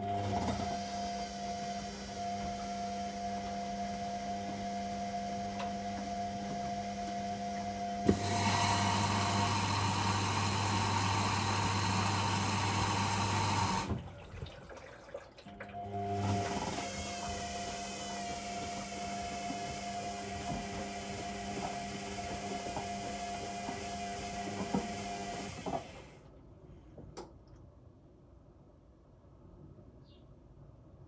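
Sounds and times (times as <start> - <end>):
washing machine humming: 0.0 - 26.2.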